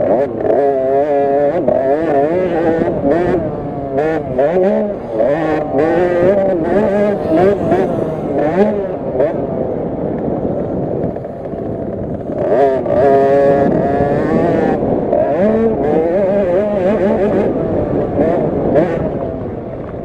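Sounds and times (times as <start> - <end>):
minibike engine revving: 0.0 - 20.0.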